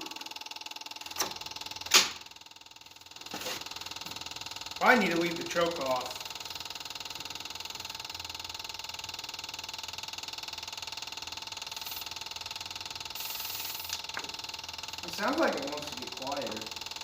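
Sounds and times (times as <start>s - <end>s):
electric fuel pump humming: 0.0s - 17.0s.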